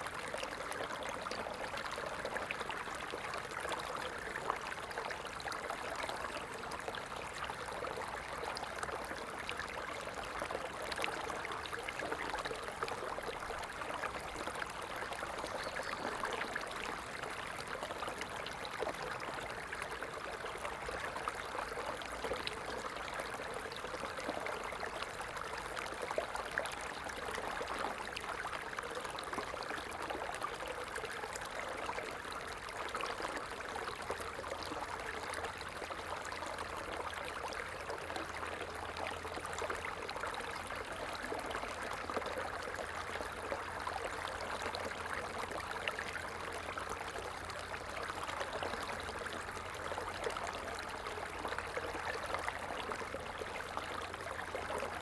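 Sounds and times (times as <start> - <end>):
stream water trickling over stones: 0.0 - 55.0.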